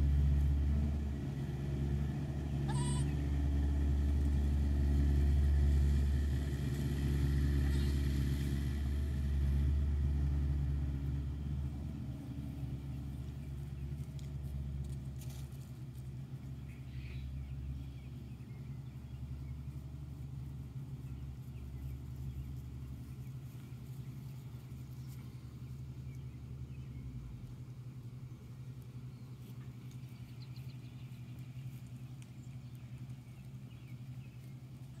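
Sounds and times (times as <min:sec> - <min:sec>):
farm machinery humming: 0:00.0 - 0:35.0.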